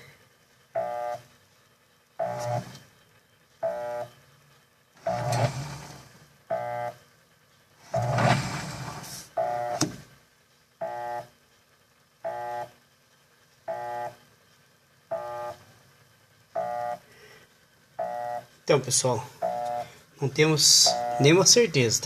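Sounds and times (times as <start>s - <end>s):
washing machine motor humming pulses: 0.0s - 22.0s.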